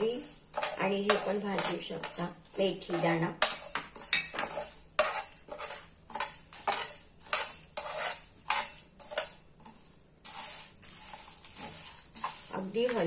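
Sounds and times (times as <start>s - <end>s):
metal spoon scraping iron pan: 0.0s - 13.0s.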